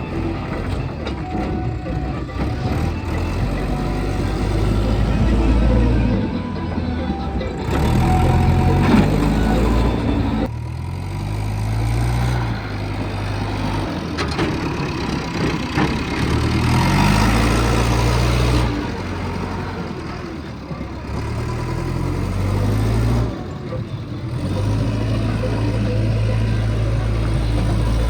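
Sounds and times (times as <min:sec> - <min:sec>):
heavy diesel engine revving: 0:00.0 - 0:28.0.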